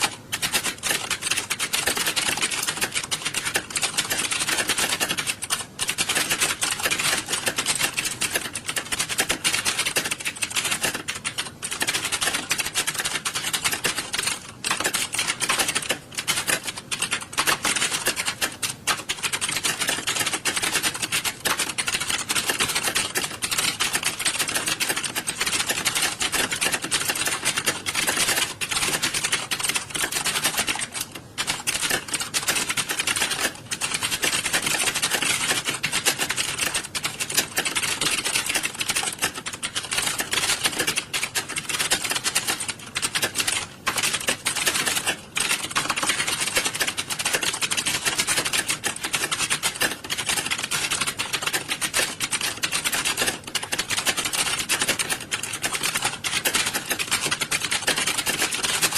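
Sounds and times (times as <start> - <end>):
many keyboards clattering: 0.0 - 58.9.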